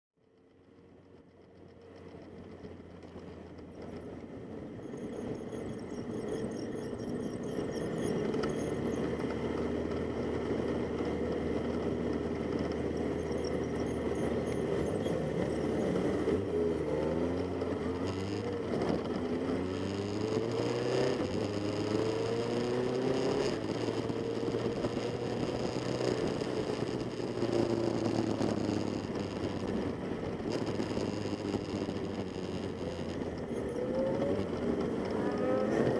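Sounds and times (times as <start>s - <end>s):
motorcycle engines running: 0.2s - 35.9s.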